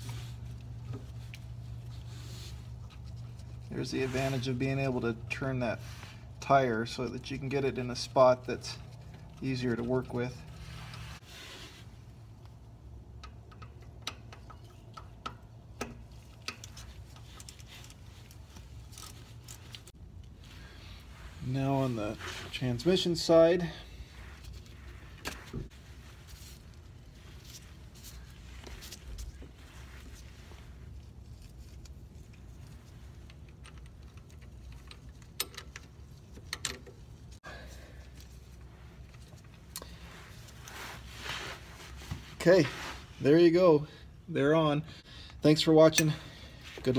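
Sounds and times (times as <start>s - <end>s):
steady low hum: 0.0s - 45.5s.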